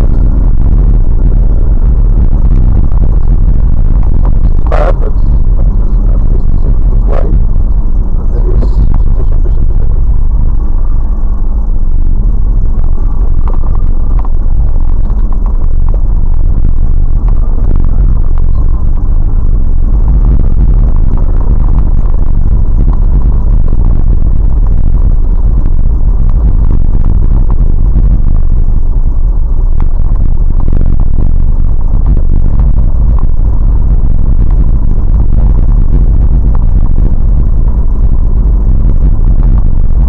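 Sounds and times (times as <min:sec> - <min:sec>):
vehicle engine and tyres rumbling: 0:00.0 - 0:40.0.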